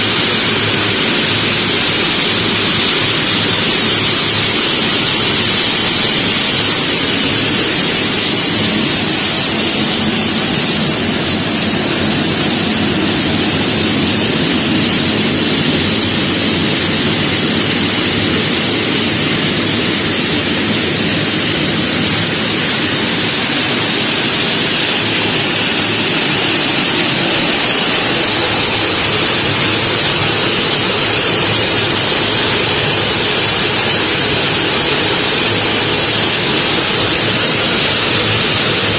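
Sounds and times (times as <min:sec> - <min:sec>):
shelling machine running: 0:00.0 - 0:38.9.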